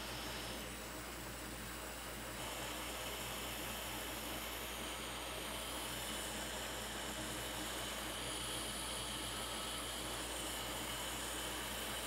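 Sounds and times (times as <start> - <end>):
electric blower hissing: 0.0 - 0.9, 2.3 - 12.0.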